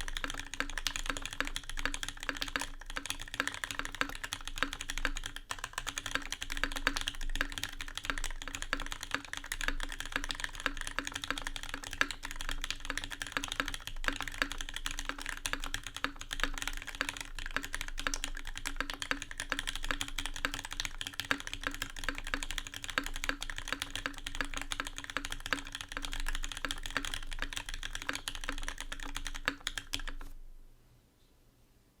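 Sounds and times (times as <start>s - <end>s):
fast mechanical keyboard typing: 0.0s - 30.4s.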